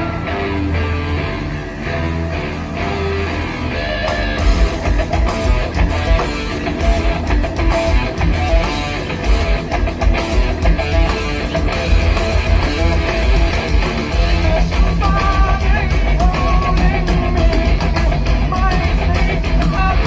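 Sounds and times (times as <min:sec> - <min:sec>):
rock music with guitar: 0:00.0 - 0:20.0.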